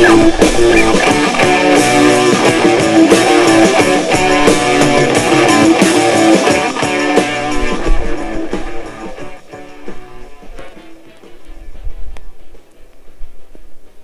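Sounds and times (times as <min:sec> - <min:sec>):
guitar music with steady beat: 0:00.0 - 0:14.0.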